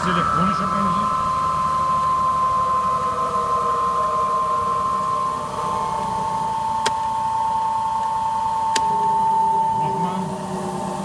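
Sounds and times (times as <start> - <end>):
extractor machine whine: 0.0 - 11.0
noisy background: 0.0 - 11.0.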